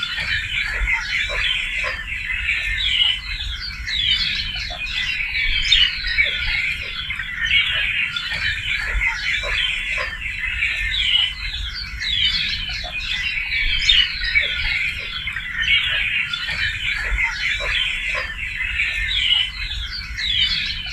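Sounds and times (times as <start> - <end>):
birds chirping and singing: 0.0 - 20.9
low bird calls: 0.0 - 20.9.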